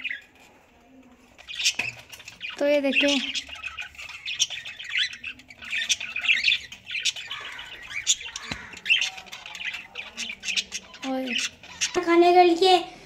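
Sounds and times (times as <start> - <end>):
budgerigars chattering: 1.3 - 12.2.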